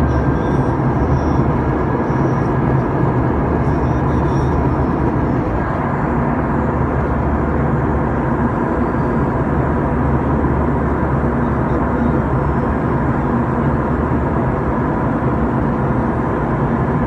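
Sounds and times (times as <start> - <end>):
low hum: 0.0 - 15.7
engine drone: 0.0 - 17.0.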